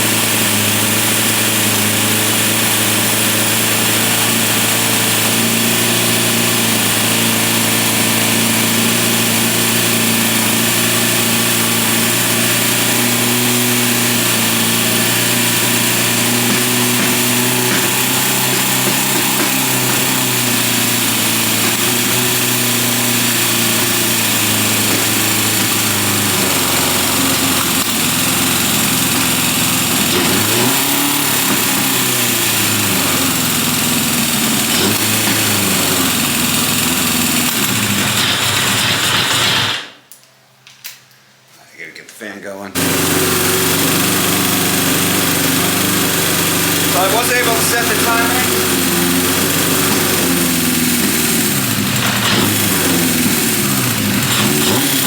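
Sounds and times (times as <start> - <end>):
motorcycle engine idling: 0.0 - 39.7, 42.8 - 55.0.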